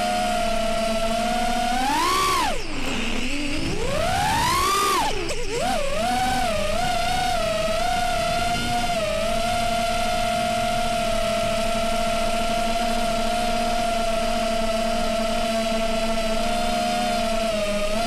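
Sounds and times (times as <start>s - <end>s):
drone motors whining: 0.0s - 18.0s.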